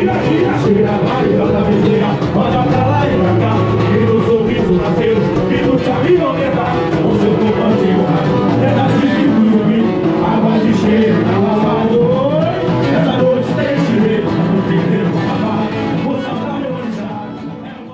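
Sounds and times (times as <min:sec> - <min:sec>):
samba music over loudspeaker: 0:00.0 - 0:17.9.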